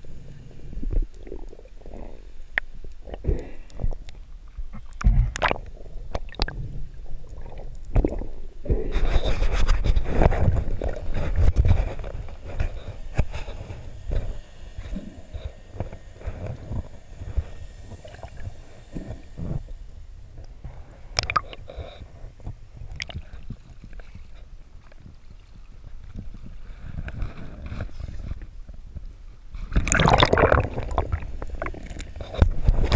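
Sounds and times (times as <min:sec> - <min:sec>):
water sloshing and gurgling: 0:00.0 - 0:28.6, 0:29.6 - 0:32.9.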